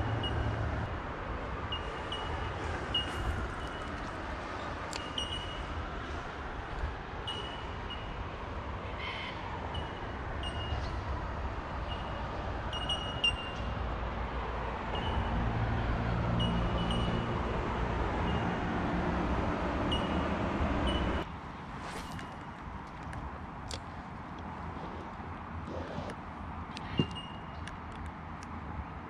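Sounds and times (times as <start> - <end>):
road traffic rumble: 0.0 - 29.0
vehicle engine hum: 0.0 - 29.0.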